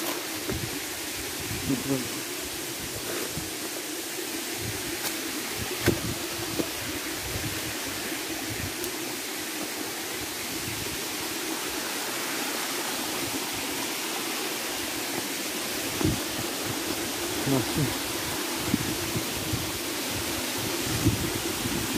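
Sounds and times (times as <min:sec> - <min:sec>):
rushing waterfall water: 0:00.0 - 0:21.9.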